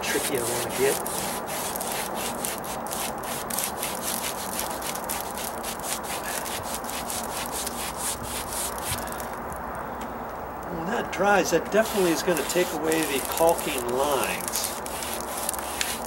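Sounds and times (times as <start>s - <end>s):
paintbrush scrubbing rough stucco: 0.0s - 9.2s, 11.2s - 16.0s.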